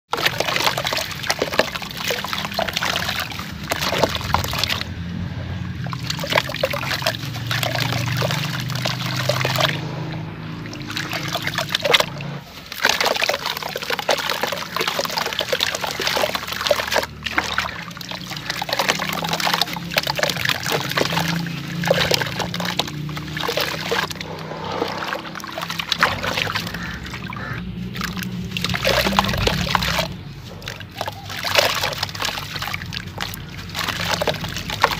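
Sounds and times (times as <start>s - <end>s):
dirt crumbs splashing into water: 0.1s - 34.9s.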